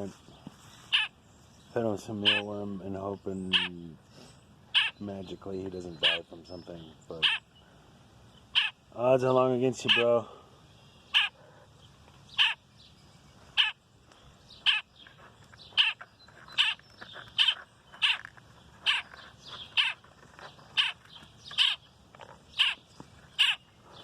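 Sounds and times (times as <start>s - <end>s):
fledgling bird calling: 0.0s - 9.0s, 9.7s - 24.0s.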